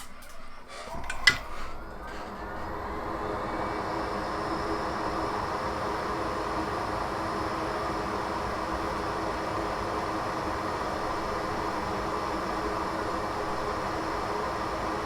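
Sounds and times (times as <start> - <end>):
hot air station blowing air: 0.0 - 15.0.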